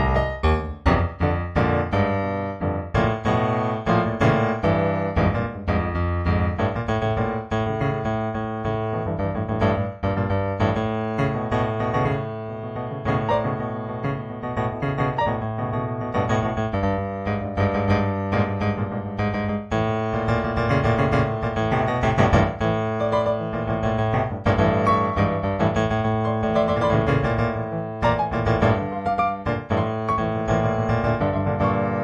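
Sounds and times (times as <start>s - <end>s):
solo piano music: 0.0s - 32.0s.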